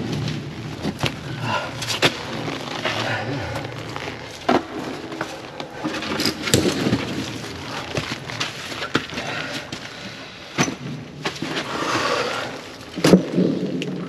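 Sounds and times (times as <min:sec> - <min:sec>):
rustling and scraping: 0:00.0 - 0:13.8.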